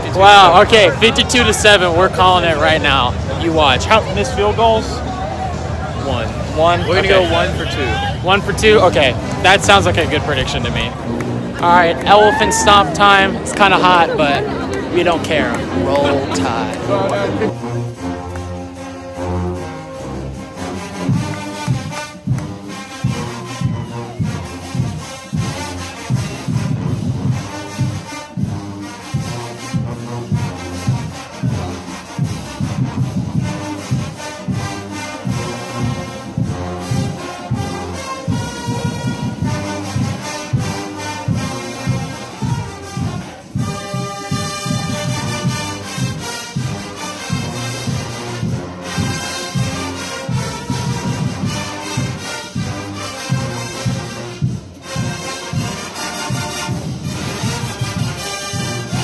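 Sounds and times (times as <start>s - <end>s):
marching band brass: 0.0s - 59.0s
steady drum beat: 0.0s - 59.0s.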